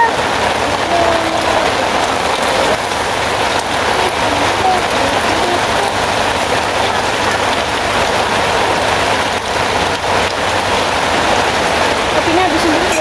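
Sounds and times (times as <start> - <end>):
raindrop ticks: 0.0 - 13.0
steady rain hiss: 0.0 - 13.0.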